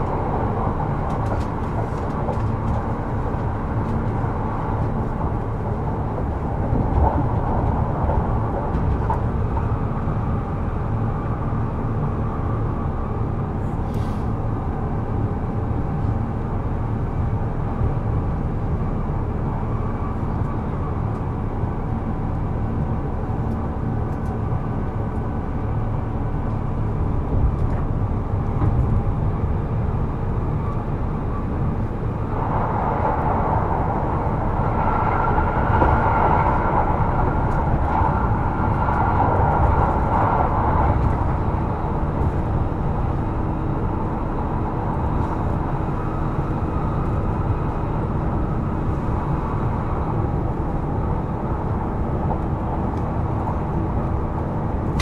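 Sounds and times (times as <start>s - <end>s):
train motors and wheels on rails: 0.0s - 55.0s.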